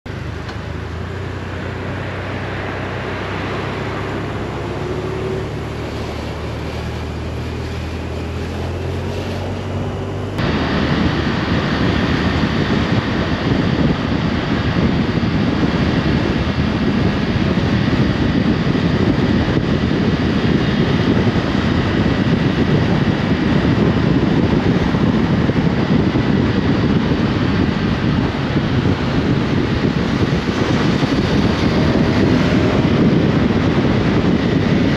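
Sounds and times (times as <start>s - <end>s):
motorcycle engine running: 0.1s - 34.9s
wind rushing on microphone: 0.1s - 34.9s.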